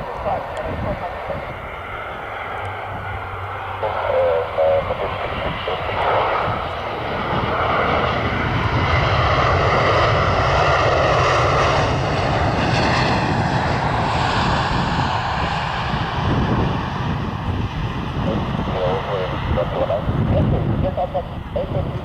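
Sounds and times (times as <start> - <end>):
jet airliner landing: 0.0 - 22.0.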